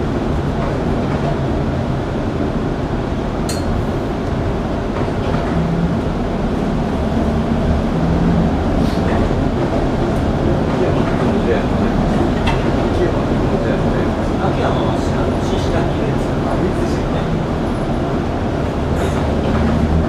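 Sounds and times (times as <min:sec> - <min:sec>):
streetcar rumbling on rails: 0:00.0 - 0:20.0.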